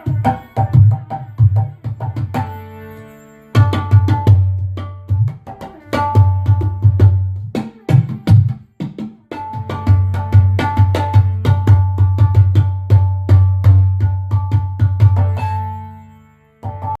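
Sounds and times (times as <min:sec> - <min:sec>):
electronic hand drum rhythm: 0:00.0 - 0:02.4, 0:03.6 - 0:15.6.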